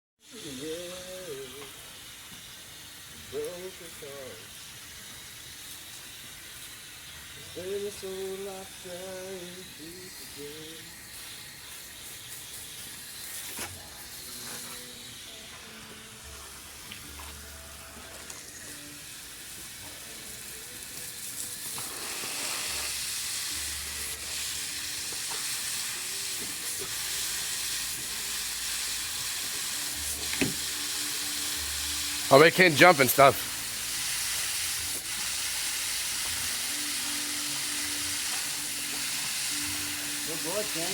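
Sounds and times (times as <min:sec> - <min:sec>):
running water hissing: 0:00.2 - 0:40.9.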